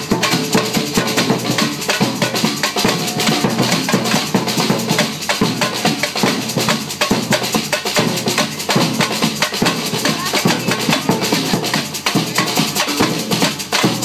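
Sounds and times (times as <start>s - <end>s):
bass drums: 0.0s - 14.0s
snare drums: 0.0s - 14.0s.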